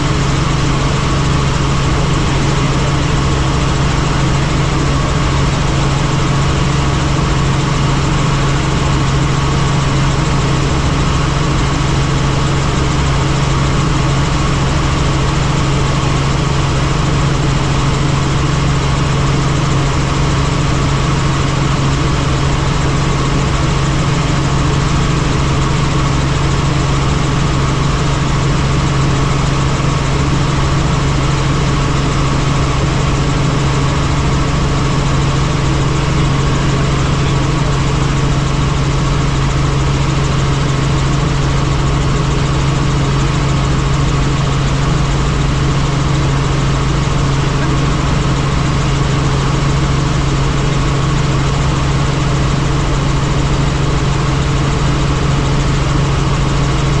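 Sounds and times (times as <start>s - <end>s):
helicopter flying: 0.0s - 57.0s.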